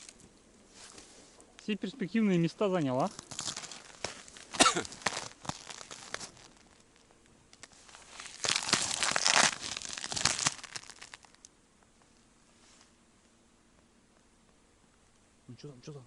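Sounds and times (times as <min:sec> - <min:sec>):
crunching and rustling: 0:00.0 - 0:13.0.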